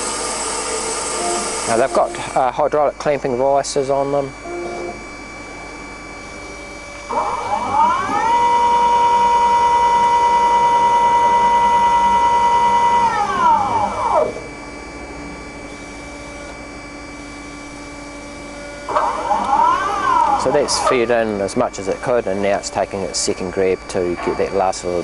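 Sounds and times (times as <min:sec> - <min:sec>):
bandsaw vise motor whine: 0:00.0 - 0:25.0
faint machine hum: 0:00.0 - 0:25.0.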